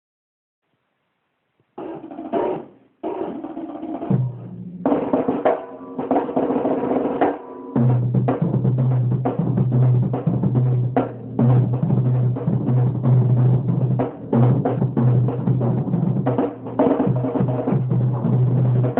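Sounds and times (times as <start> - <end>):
drum kit playing: 1.8 - 18.9.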